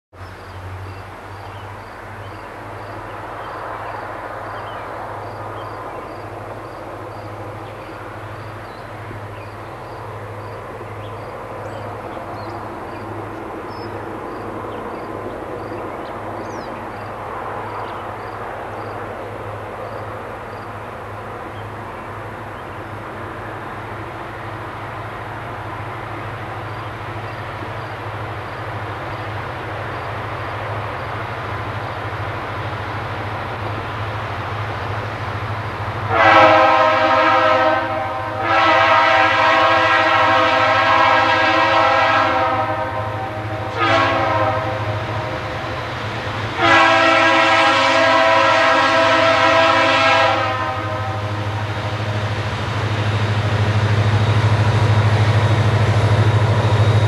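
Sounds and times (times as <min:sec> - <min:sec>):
diesel locomotive engine drone: 0:00.1 - 0:57.0.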